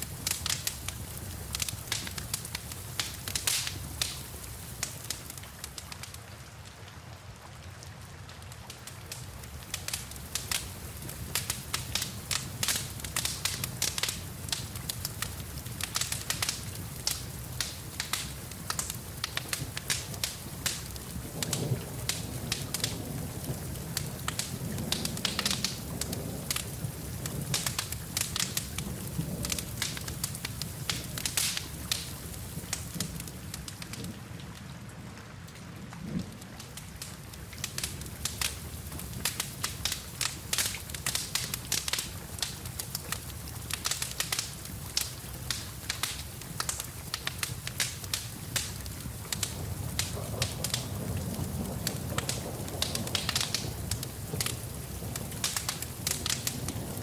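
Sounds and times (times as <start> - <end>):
rain hissing: 0.0 - 6.6, 8.7 - 57.0
wood fire crackling and popping: 0.0 - 34.7, 35.4 - 57.0.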